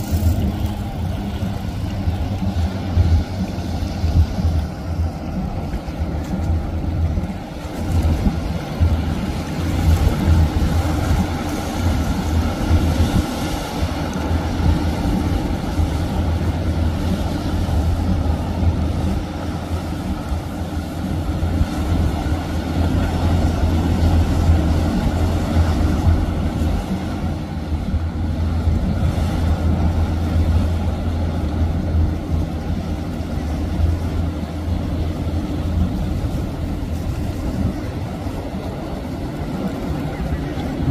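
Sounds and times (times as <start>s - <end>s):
boat diesel engines droning: 0.0s - 40.9s
bow wave and wake rushing: 0.0s - 40.9s.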